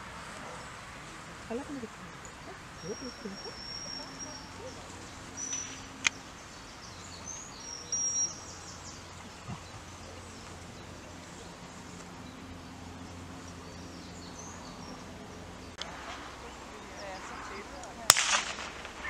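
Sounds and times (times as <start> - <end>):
songbirds chirping and whistling: 0.0 - 19.0
steady low background noise: 0.0 - 19.0.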